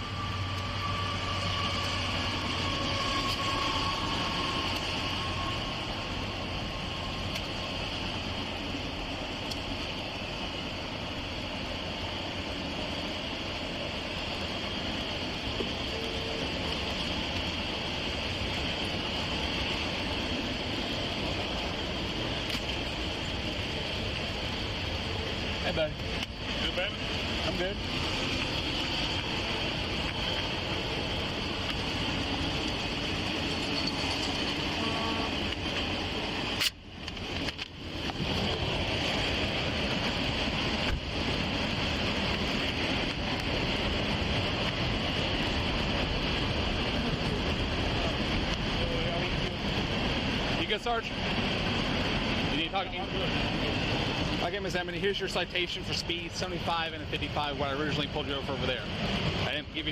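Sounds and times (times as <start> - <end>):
idling vehicle rumble: 0.0 - 59.9
road traffic: 0.0 - 59.9
wind: 0.0 - 59.9.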